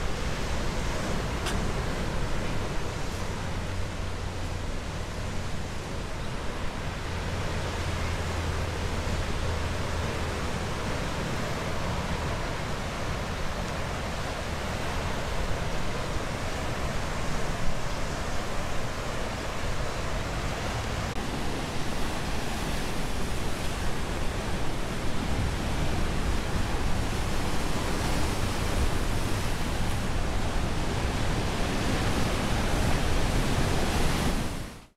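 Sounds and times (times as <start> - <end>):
ocean surf breaking: 0.0 - 34.9.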